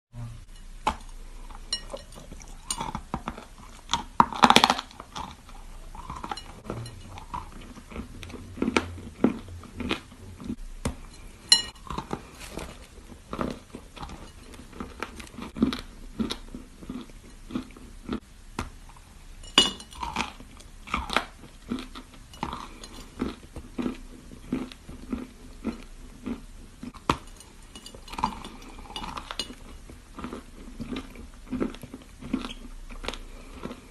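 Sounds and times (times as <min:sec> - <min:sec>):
crunching and chewing chalk: 0:00.8 - 0:19.1, 0:19.9 - 0:33.9.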